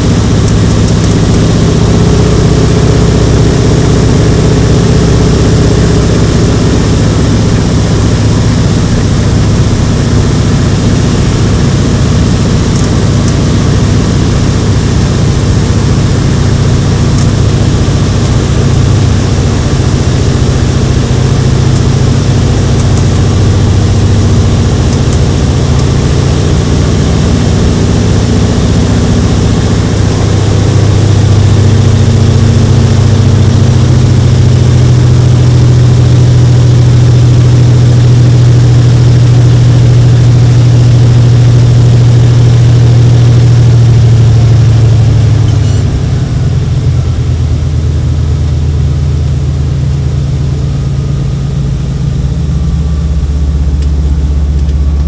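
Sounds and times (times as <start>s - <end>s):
propeller plane engine running: 0.0s - 55.0s.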